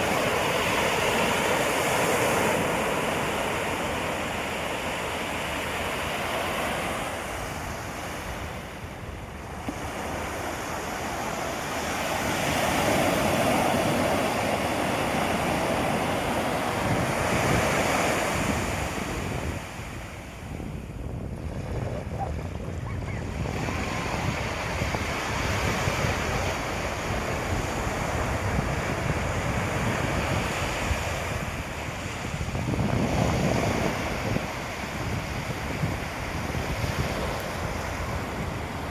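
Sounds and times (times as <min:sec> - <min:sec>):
sea waves breaking on beach: 0:00.0 - 0:38.9
wind buffeting microphone: 0:00.0 - 0:38.9.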